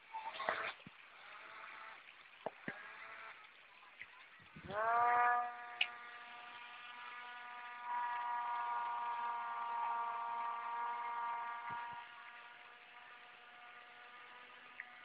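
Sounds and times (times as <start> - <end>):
electric motor and propeller whine: 0.3 - 15.0.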